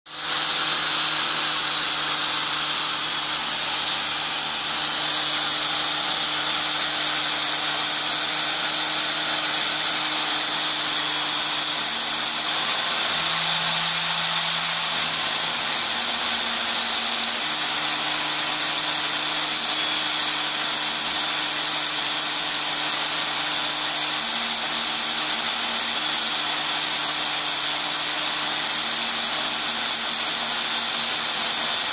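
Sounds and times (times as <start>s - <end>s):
angle grinder whining: 0.1s - 31.9s.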